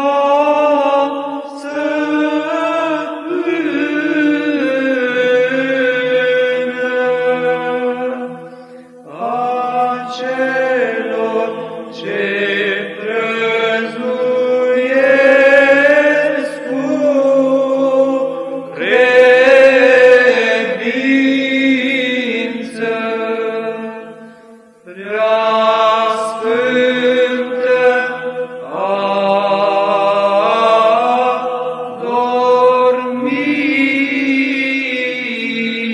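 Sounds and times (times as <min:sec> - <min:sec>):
monks chanting a hymn: 0:00.0 - 0:35.9.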